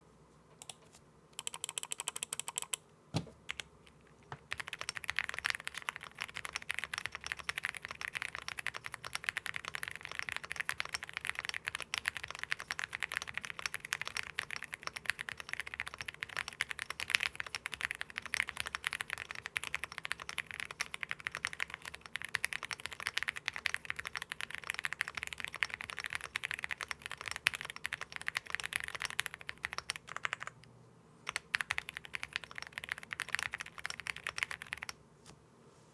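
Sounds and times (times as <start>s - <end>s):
mechanical keyboard typing: 1.4s - 2.8s, 4.4s - 30.6s, 31.3s - 35.0s.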